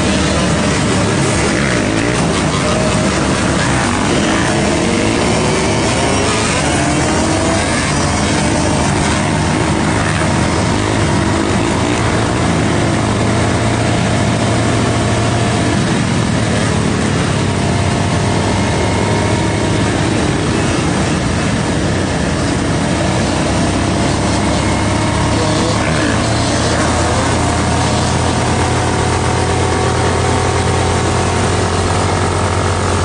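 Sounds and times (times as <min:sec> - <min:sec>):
motorcycle engine drone: 0:00.0 - 0:33.0
wind rush on microphone: 0:00.0 - 0:33.0.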